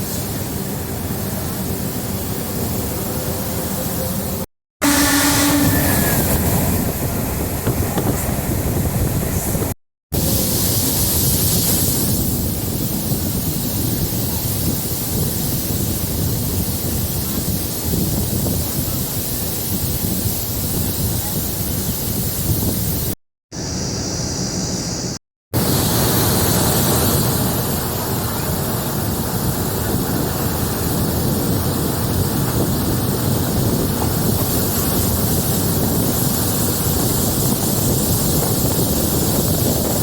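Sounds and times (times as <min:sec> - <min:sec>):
rushing wind: 0:00.0 - 0:40.0
train rumbling in motion: 0:00.0 - 0:40.0.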